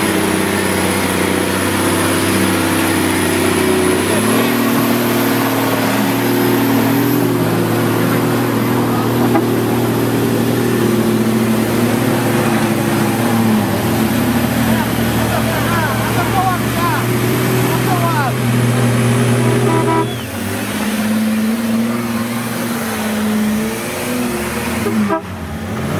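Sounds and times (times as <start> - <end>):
off-road vehicle engine in mud: 0.0 - 25.9.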